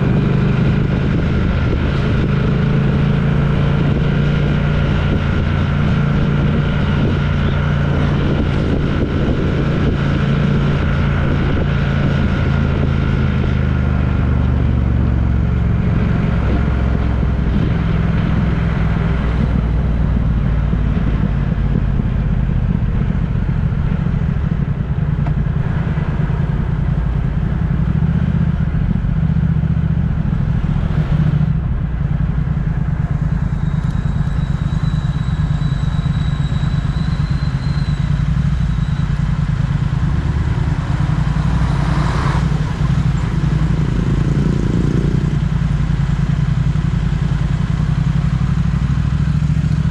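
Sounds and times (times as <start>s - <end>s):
road noise: 0.0s - 49.9s
vehicle engine droning: 0.0s - 49.9s.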